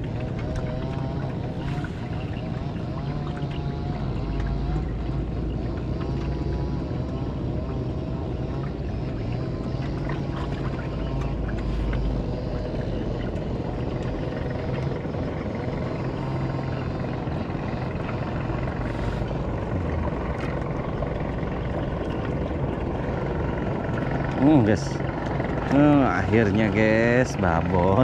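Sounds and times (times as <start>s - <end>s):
boat engine drone: 0.0s - 28.0s.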